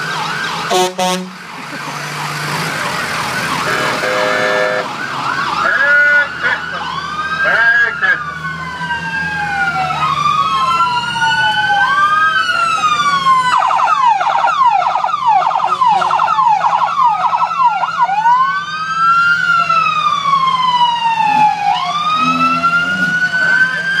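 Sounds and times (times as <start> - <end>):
emergency vehicle sirens: 0.0 - 24.0.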